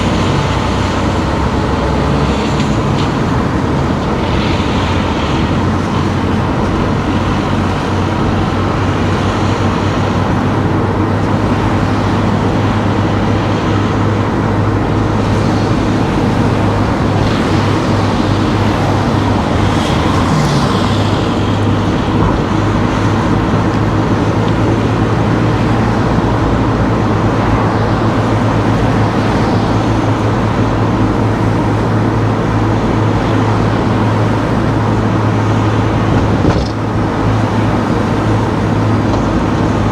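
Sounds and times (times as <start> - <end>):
car engine hum with road noise: 0.0 - 39.9.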